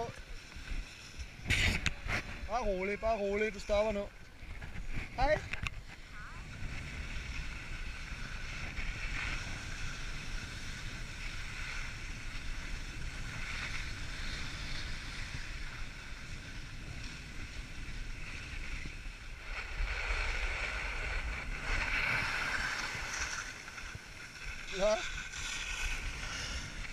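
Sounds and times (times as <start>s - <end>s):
skis scraping over packed snow: 0.0s - 26.9s
wind rumbling on microphone: 0.0s - 26.9s.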